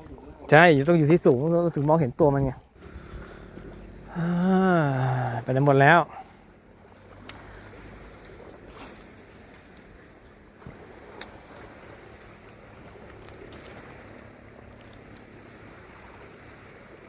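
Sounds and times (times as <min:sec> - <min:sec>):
water washing around boat: 0:00.0 - 0:17.0
wind: 0:00.0 - 0:17.0.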